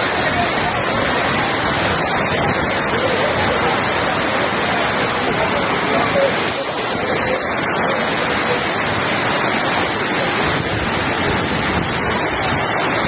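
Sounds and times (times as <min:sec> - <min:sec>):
rain pouring: 0:00.0 - 0:13.0.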